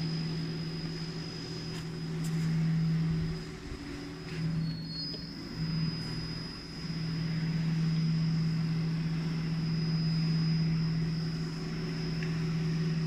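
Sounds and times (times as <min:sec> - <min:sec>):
high-pitched whine: 0:00.0 - 0:13.0
milling machine humming: 0:00.0 - 0:13.0.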